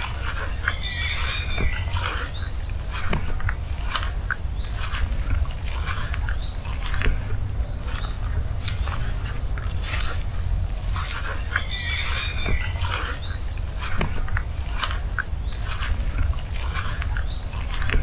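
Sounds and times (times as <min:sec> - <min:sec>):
low steady rumble: 0:00.0 - 0:18.0
thin steady high whine: 0:00.0 - 0:18.0
warbling bird calls: 0:00.0 - 0:18.0.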